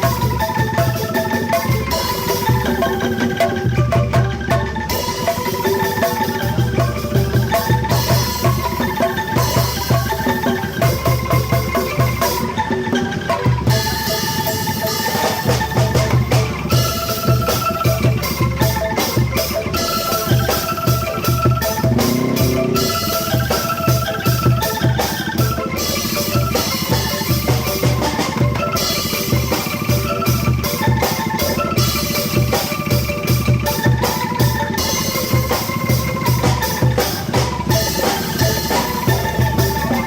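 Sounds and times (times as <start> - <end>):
angklung band music: 0.0 - 40.0
steady drum beat: 0.0 - 40.0.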